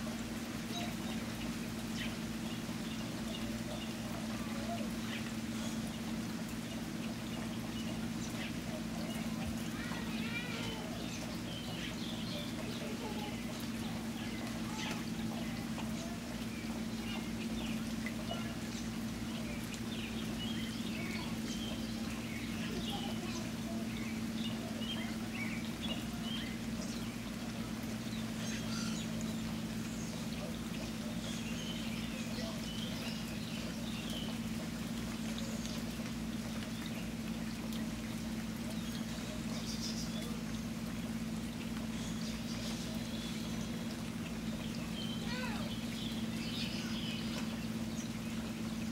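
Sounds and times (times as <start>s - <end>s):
constant low hum: 0.0s - 48.9s
steady rainfall: 0.0s - 48.9s.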